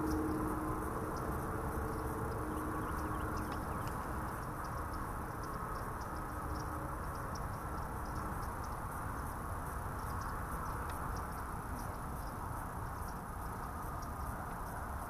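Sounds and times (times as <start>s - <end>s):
faint high ticks: 0.0s - 15.0s.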